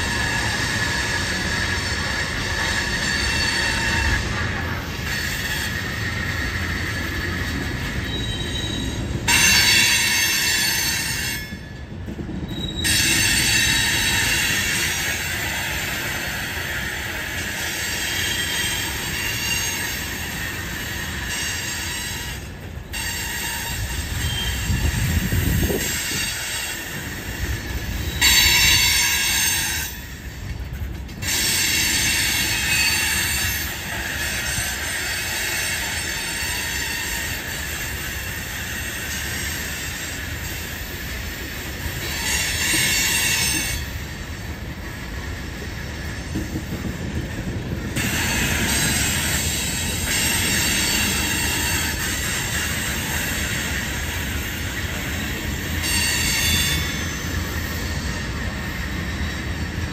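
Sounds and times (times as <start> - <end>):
rumble of wheels on rail: 0.0 - 59.9
train wheel squeal: 0.0 - 59.9.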